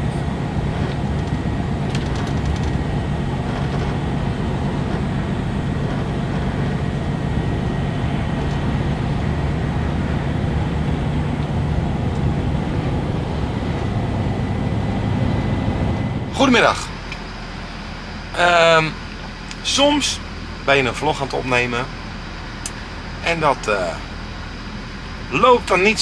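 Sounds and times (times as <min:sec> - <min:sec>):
truck engine drone: 0:00.0 - 0:26.0
tyre and road noise: 0:00.0 - 0:26.0.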